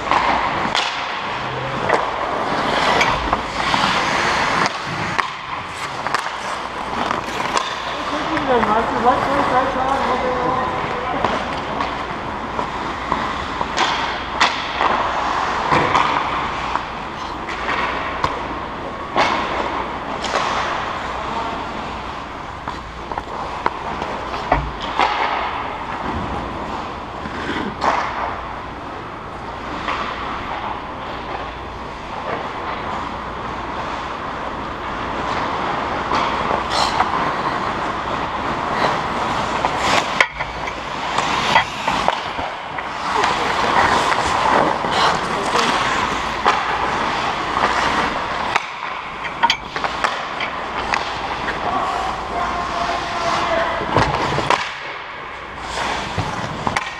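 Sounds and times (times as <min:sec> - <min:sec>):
hockey sticks and puck clacking: 0:00.0 - 0:56.9
skate blades scraping ice: 0:00.0 - 0:56.9.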